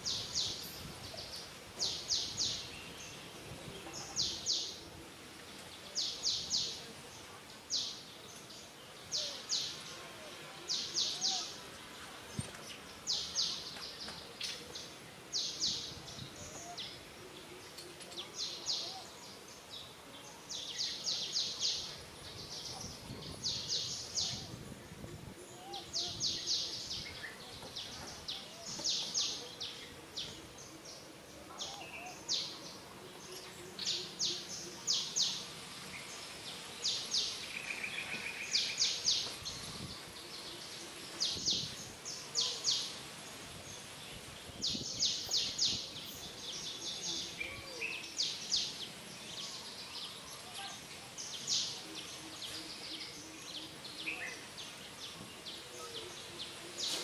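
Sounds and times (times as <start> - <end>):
outdoor hiss: 0.0 - 57.0
small birds chirping: 0.0 - 57.0.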